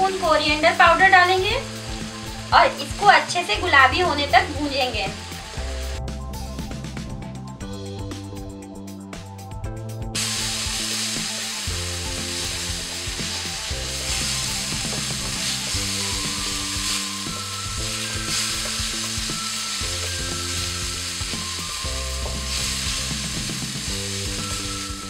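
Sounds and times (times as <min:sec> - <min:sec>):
paste sizzling in hot oil: 0:00.0 - 0:06.6, 0:10.2 - 0:25.0
soft background music: 0:00.0 - 0:25.0.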